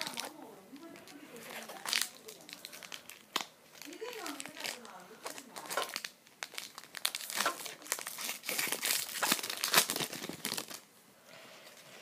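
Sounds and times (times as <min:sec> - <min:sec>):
foil wrapper tearing and crinkling: 0:00.0 - 0:10.9.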